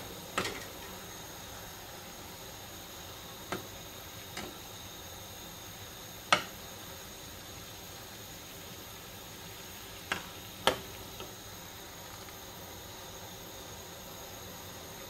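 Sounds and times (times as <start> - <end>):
simmering water hissing: 0.0 - 15.0.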